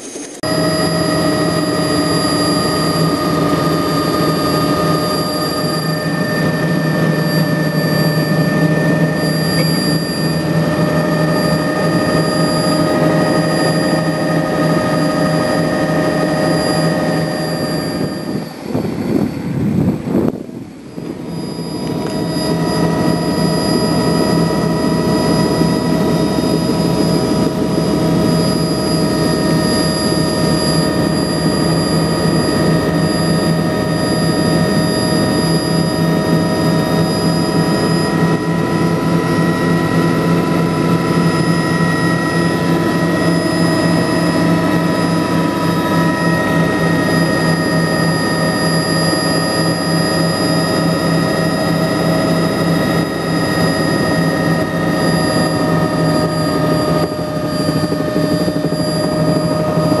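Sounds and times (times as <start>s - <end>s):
helicopter turbine and rotors: 0.0s - 60.0s.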